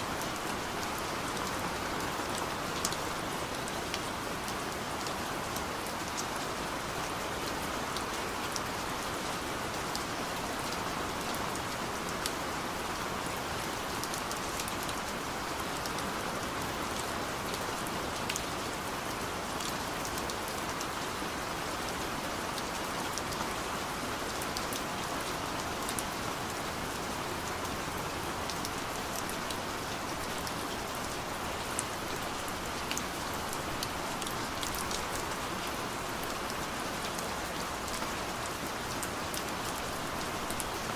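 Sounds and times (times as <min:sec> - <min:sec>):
rain on a car: 0:00.0 - 0:40.9.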